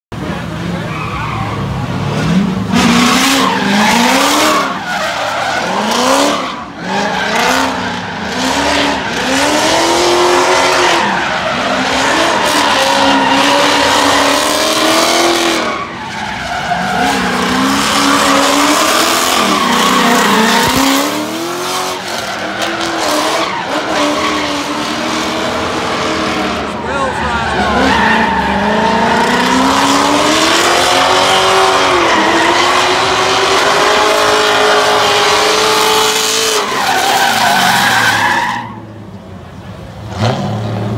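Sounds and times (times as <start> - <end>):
car engine revving: 0.1 - 40.9
tyres screeching: 0.8 - 39.1.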